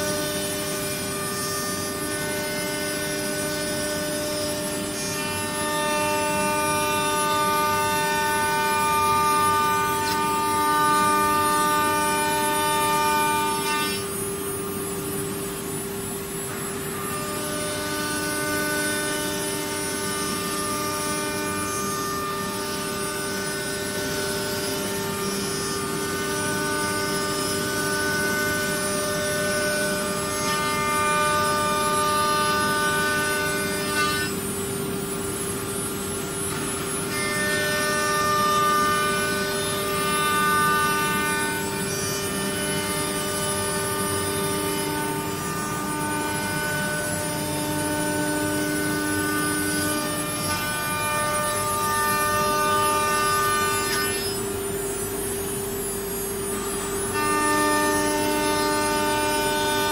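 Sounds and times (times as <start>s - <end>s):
cnc router whining: 0.0s - 59.9s.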